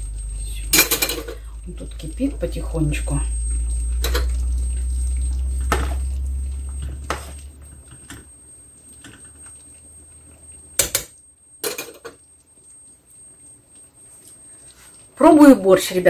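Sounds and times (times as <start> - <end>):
low hum: 0.0 - 14.7.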